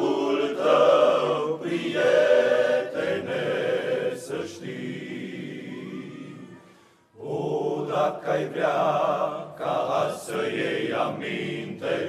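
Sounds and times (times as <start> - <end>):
men's choir singing: 0.0 - 12.0.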